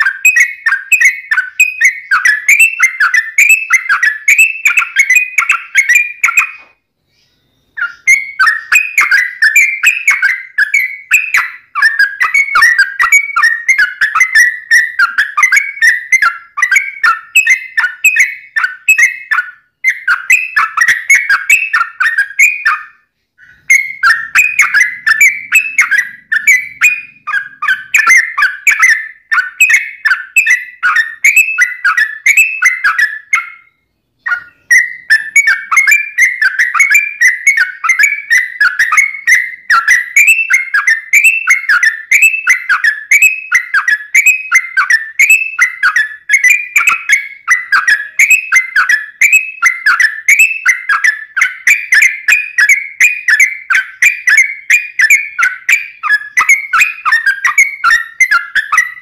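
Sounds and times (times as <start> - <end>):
bird warbling whistled song: 0.0 - 59.0.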